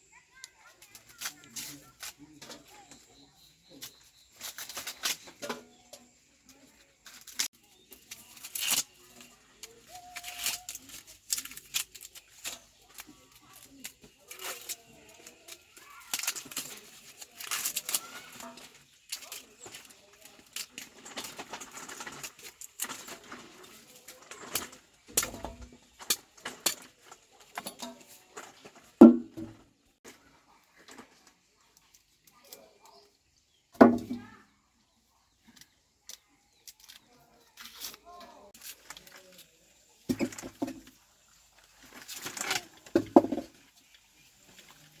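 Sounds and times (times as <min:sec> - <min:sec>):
rustling: 0:00.4 - 0:33.1, 0:36.6 - 0:45.0.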